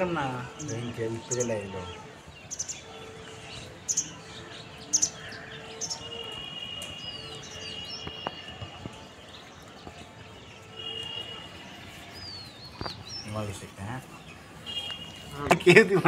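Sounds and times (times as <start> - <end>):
birds chirping: 0.0 - 16.0
outdoor background noise: 0.0 - 16.0.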